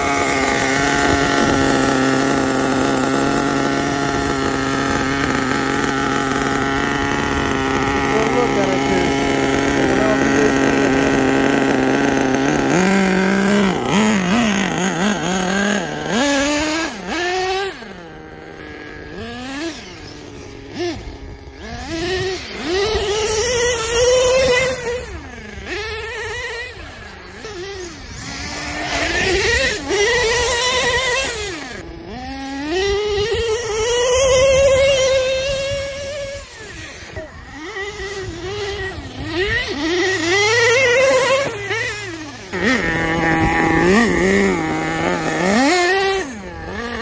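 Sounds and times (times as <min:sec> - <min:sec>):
small nitro engine revving: 0:00.0 - 0:47.0.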